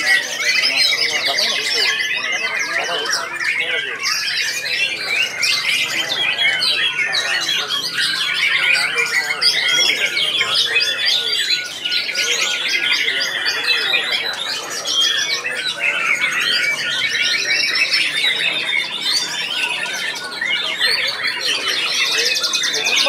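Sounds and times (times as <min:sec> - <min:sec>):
birds singing: 0:00.0 - 0:23.0.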